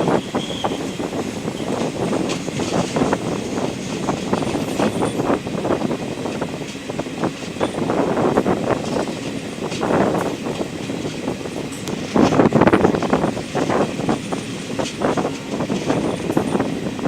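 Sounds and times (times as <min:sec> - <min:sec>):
train clatter and knocks: 0:00.0 - 0:17.0
train coaches rumbling: 0:00.0 - 0:17.0.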